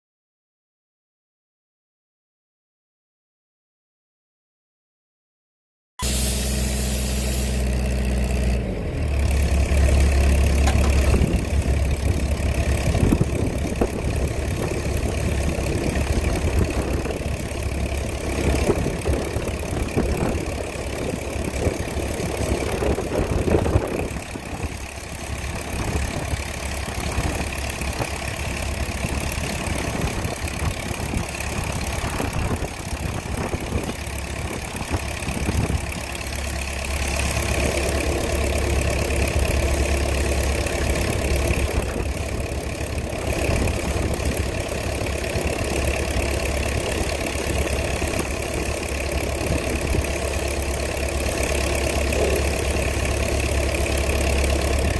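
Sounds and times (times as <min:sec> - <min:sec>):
large engine running: 0:06.0 - 0:54.9.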